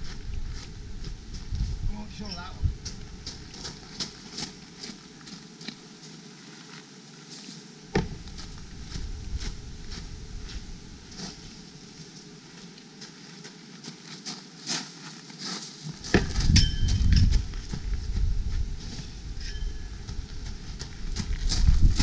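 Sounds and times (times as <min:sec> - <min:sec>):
footsteps on gravel: 0:00.0 - 0:22.0.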